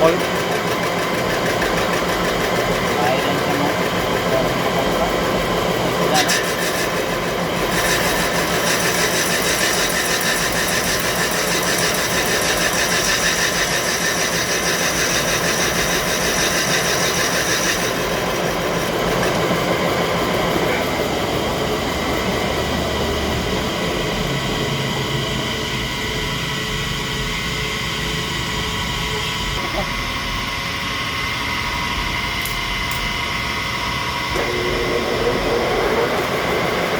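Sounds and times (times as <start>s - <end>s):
machine running: 0.0s - 36.9s.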